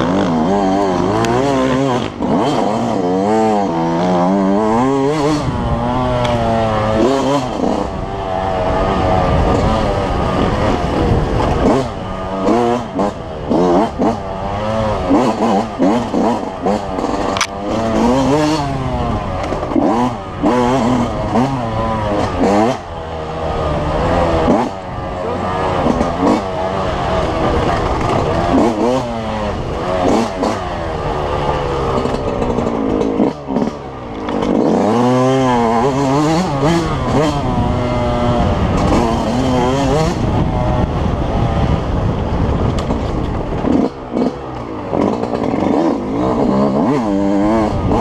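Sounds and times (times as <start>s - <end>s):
two-stroke motorcycle engine revving: 0.0s - 48.0s.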